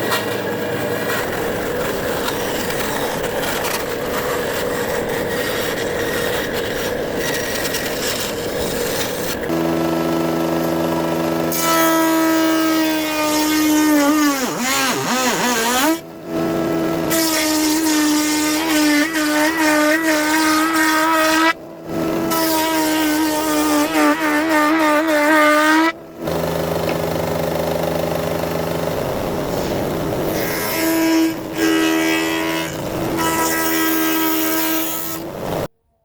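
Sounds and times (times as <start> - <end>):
spindle moulder whining: 0.0 - 35.7.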